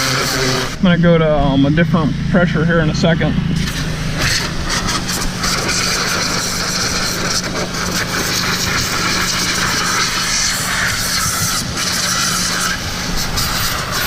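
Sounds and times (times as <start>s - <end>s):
pressure washer jet hissing: 0.0s - 14.0s.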